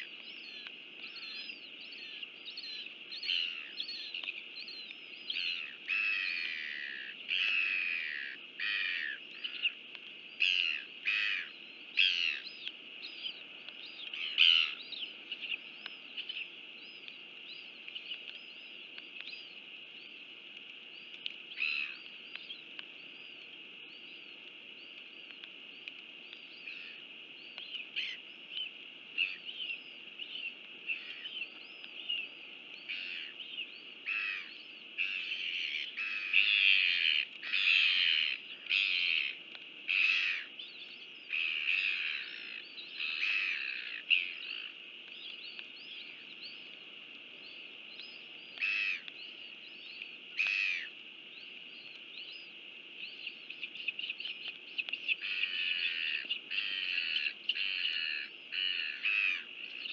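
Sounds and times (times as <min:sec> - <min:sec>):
birds chirping: 0:00.0 - 0:59.9
steady high hiss: 0:00.0 - 0:59.9.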